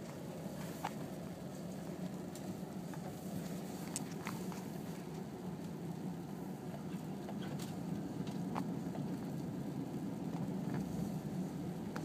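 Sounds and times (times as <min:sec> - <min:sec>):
car engine hum from inside: 0:00.0 - 0:12.0.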